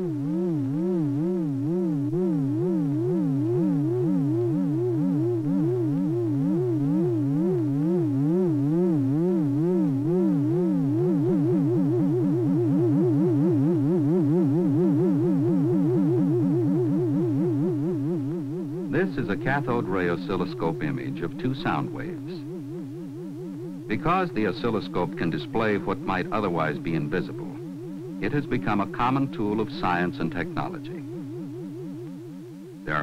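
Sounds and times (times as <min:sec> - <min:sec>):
warbling synthesizer tones: 0:00.0 - 0:33.0.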